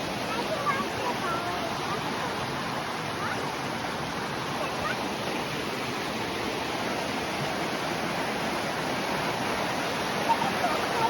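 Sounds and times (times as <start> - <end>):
stream flowing: 0.0 - 11.0.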